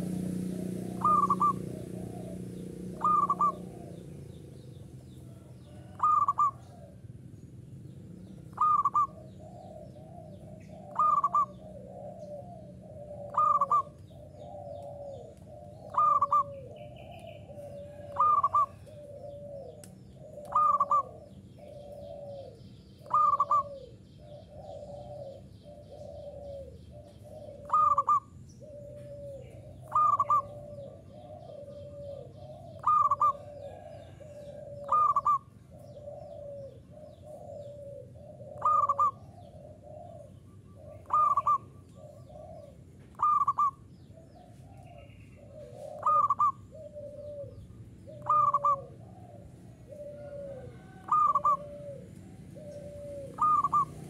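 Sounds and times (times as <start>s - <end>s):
dove cooing: 0.0s - 7.2s, 8.3s - 54.0s.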